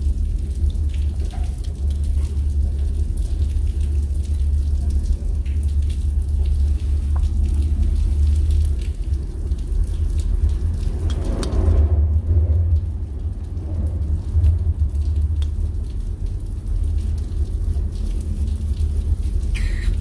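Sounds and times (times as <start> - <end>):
low rumble: 0.0 - 20.0
steady rain: 0.0 - 20.0.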